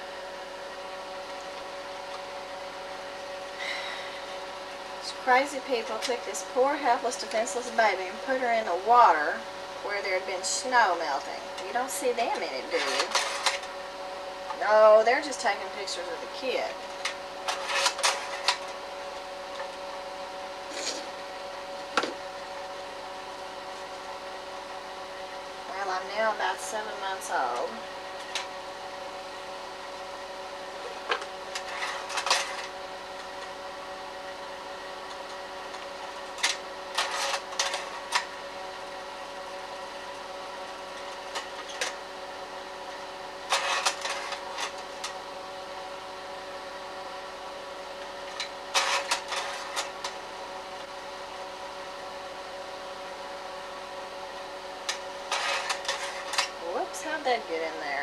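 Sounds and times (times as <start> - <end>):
projector fan and motor hum: 0.0 - 58.0.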